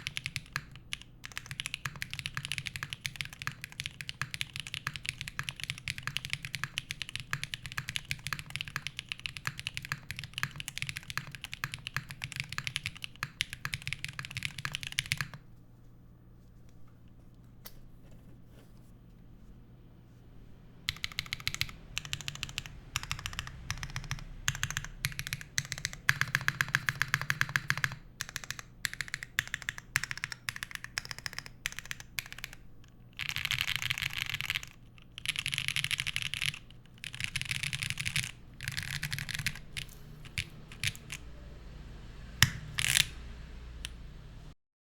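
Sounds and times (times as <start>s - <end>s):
mechanical keyboard typing: 0.0s - 15.4s, 20.9s - 41.3s, 42.4s - 43.2s.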